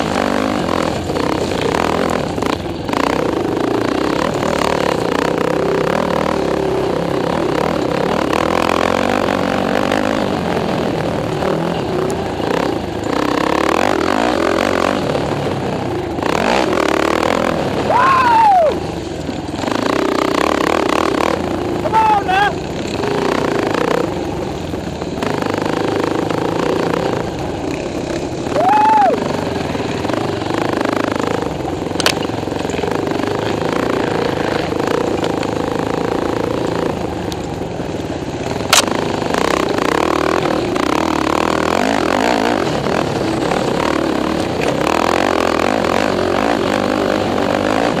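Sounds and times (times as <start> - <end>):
atv engines running hard: 0.0 - 48.0.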